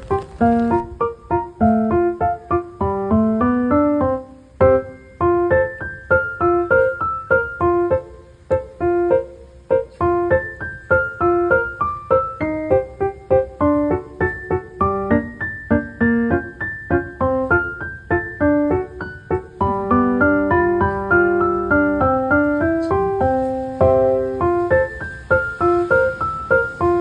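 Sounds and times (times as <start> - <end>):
piano melody: 0.0 - 27.0.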